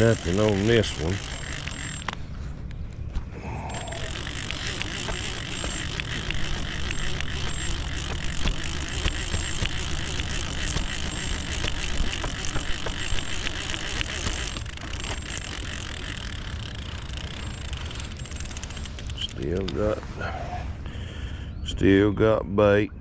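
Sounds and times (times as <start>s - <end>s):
fishing reel clicking: 0.0s - 2.3s, 3.5s - 20.0s.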